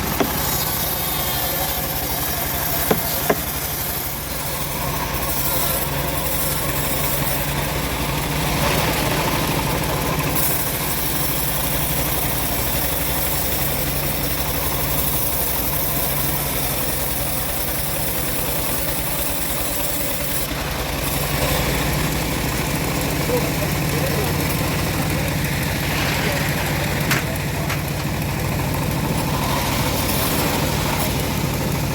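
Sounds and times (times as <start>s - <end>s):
sawmill engine running: 0.0s - 31.9s.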